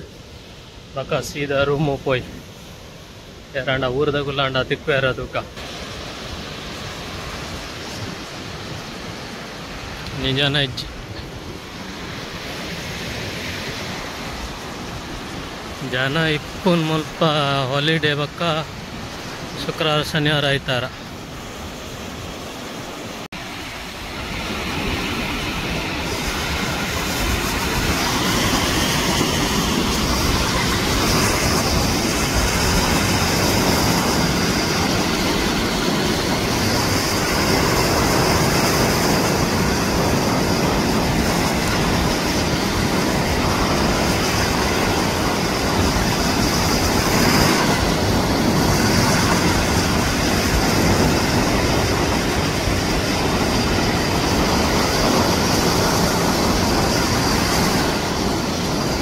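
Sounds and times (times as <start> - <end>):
surf washing on sandy beach: 0.0 - 59.0
wind buffeting microphone: 5.4 - 59.0.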